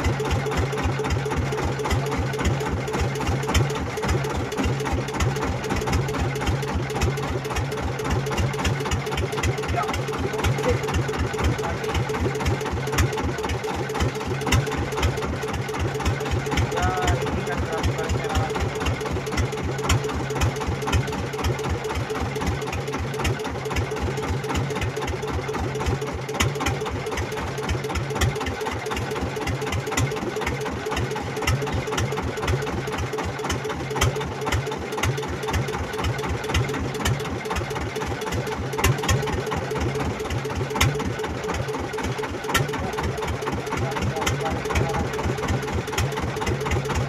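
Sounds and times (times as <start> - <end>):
boat engine putter: 0.0 - 47.0.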